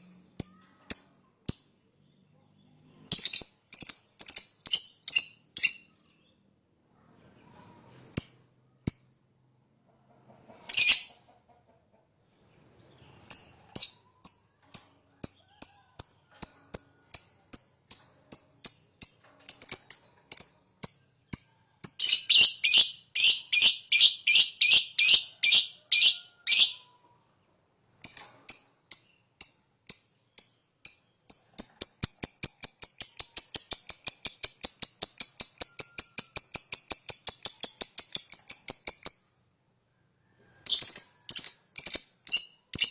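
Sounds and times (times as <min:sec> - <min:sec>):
bird chirping: 0:00.0 - 0:09.3, 0:09.9 - 0:39.4, 0:40.4 - 0:42.9.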